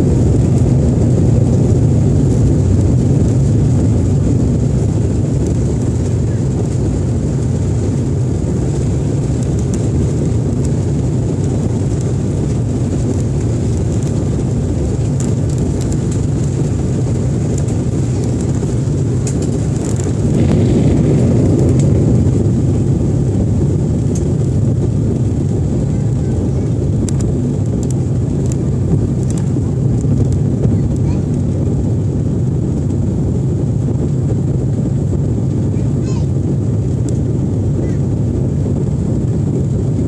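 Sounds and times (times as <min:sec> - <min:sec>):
jet engines rumbling in cabin: 0:00.0 - 0:40.0.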